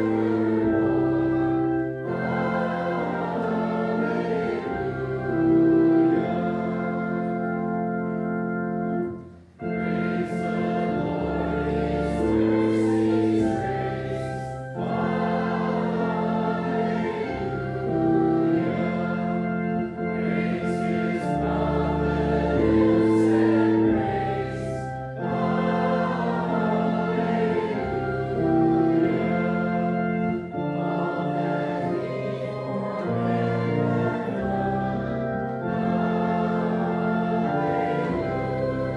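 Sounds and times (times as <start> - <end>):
congregation singing a hymn: 0.0 - 38.9
organ chords: 0.0 - 38.9.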